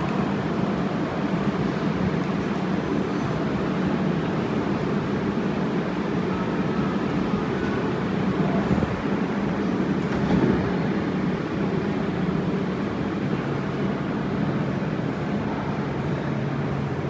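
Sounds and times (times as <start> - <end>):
train cars rumbling past: 0.0 - 17.0.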